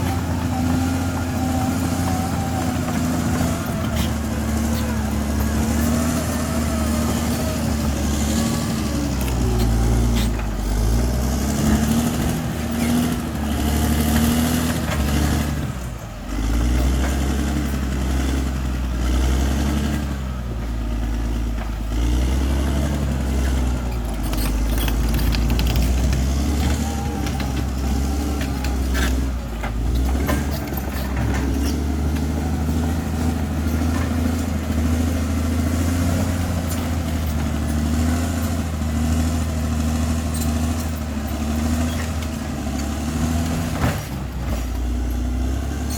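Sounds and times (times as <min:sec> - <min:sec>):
bulldozer diesel engine working: 0:00.0 - 0:45.9.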